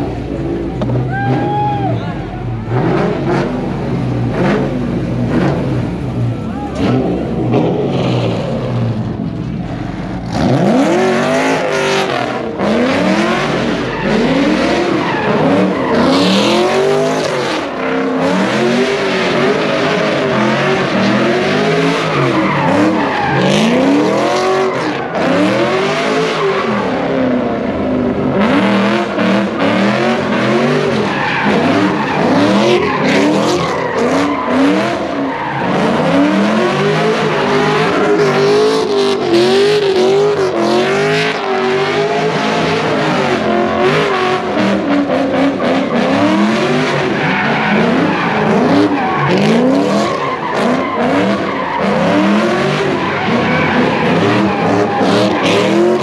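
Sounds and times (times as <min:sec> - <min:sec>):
car engines revving: 0:00.0 - 0:56.0
tires squealing on pavement: 0:00.3 - 0:27.7, 0:28.3 - 0:56.0.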